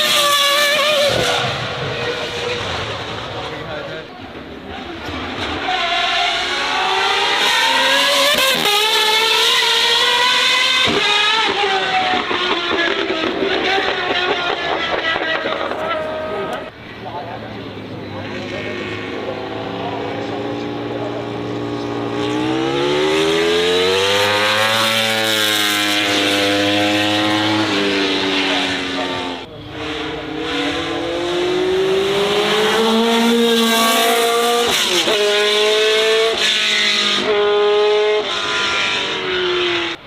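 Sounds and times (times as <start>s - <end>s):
racing car engine accelerating: 4.9s - 16.7s, 17.7s - 40.0s.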